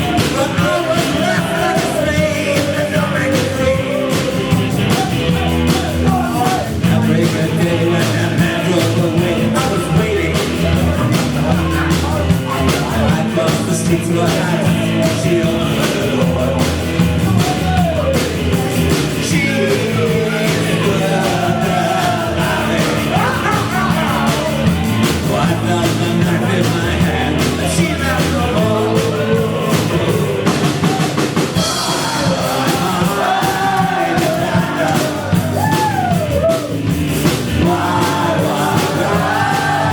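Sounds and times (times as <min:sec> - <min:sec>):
person singing: 0:00.0 - 0:36.8, 0:37.4 - 0:39.9
drum kit steady beat: 0:00.0 - 0:39.9
rock band playing loudly: 0:00.0 - 0:39.9.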